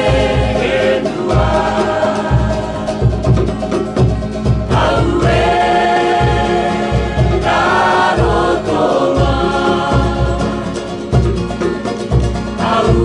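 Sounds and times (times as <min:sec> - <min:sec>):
group singing in harmony: 0:00.0 - 0:13.0
steady low beat: 0:00.0 - 0:13.0
strummed ukuleles: 0:00.0 - 0:13.0.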